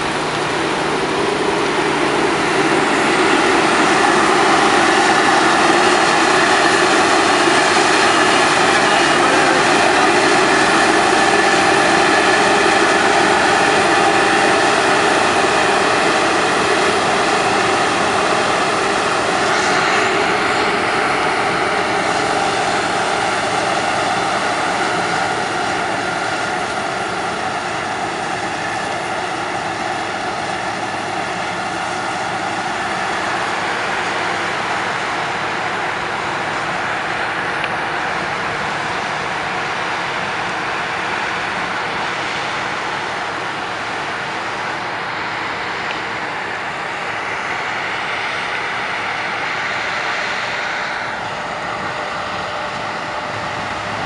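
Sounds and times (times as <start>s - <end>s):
combine harvester running: 0.0s - 54.0s
machine whine: 0.0s - 54.0s
tractor engine: 0.0s - 54.0s.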